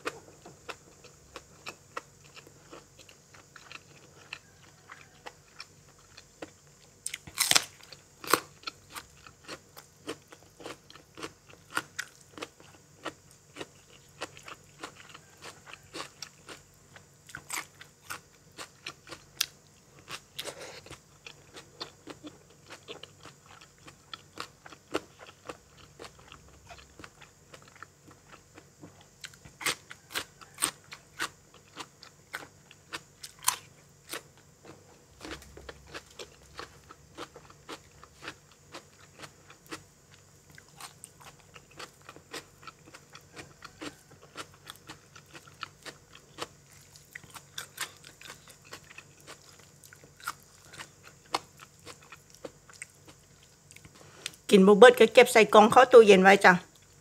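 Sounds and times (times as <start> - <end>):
chewing crunchy vegetables: 0.0 - 54.5.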